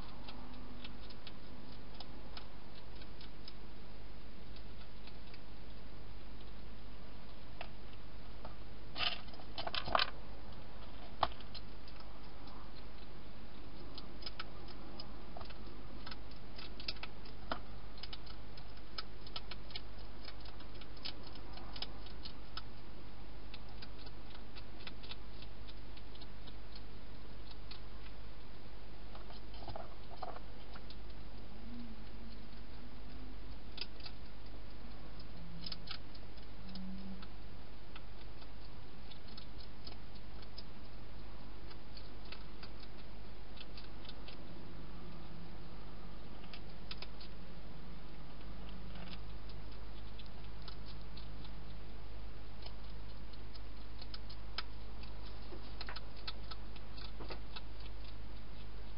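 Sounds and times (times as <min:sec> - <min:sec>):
hedgehog chewing and crunching: 0:00.0 - 0:58.9
steady low hum: 0:00.0 - 0:58.9.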